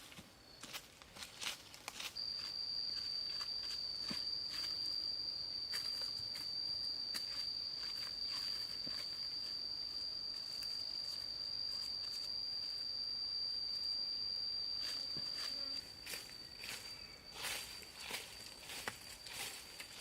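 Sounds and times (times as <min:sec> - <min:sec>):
insect trilling: 0:00.5 - 0:20.0.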